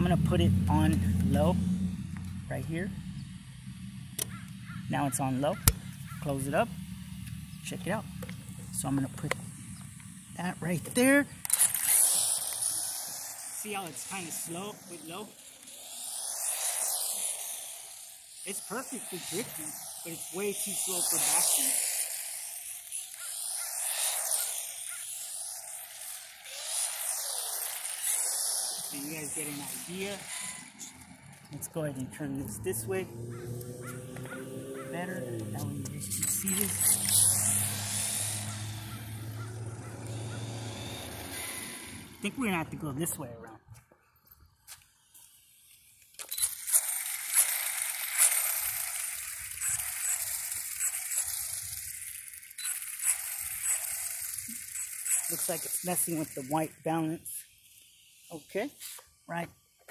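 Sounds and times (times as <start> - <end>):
electric motor whining: 0.0 - 43.3, 45.6 - 59.8
rc car tyres and drivetrain rushing: 0.0 - 44.3, 45.2 - 59.9.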